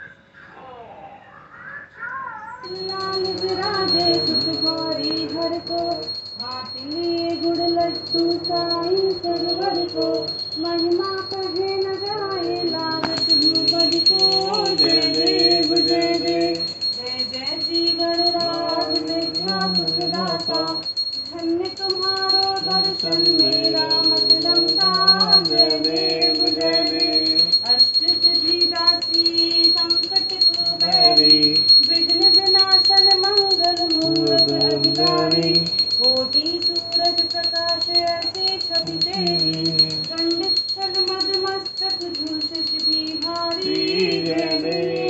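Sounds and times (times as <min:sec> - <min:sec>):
hand bell ringing: 0:02.6 - 0:45.0
devotional singing: 0:02.7 - 0:45.0.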